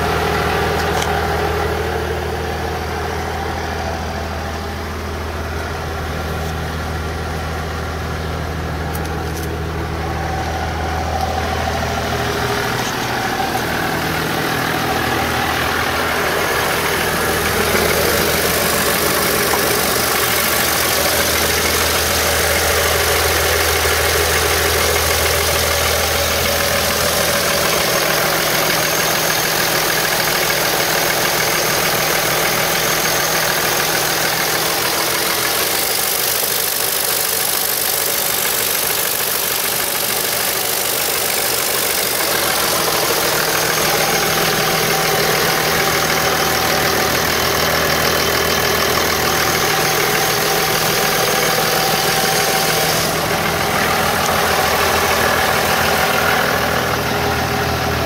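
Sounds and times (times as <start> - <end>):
pickup truck engine idling: 0.0 - 58.0.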